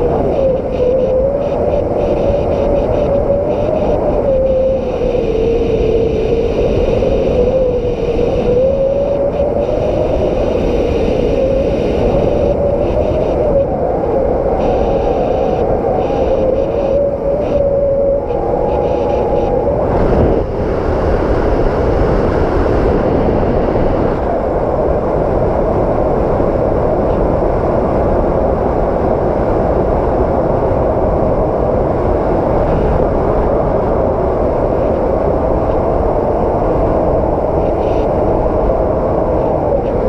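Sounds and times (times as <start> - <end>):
thin wind whistle: 0.0 - 28.1, 29.0 - 40.0
strong wind roaring: 0.0 - 40.0.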